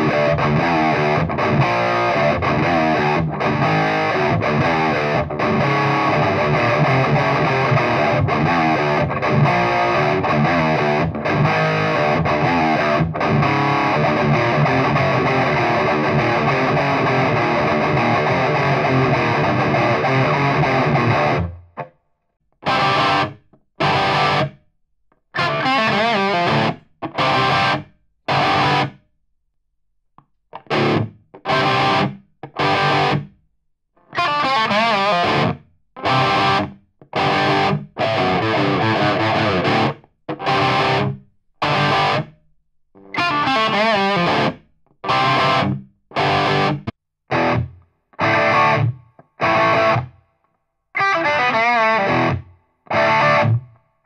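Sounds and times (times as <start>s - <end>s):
distorted electric guitar: 0.0s - 21.6s, 22.6s - 24.6s, 25.4s - 29.0s, 30.6s - 33.3s, 34.0s - 42.4s, 43.0s - 50.2s, 51.0s - 53.8s.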